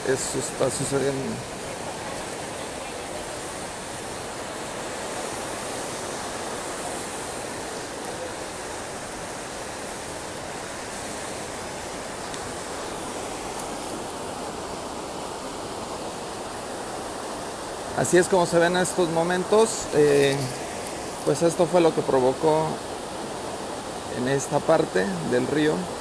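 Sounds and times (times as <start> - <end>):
floodwater rushing over rocks: 0.0 - 26.0.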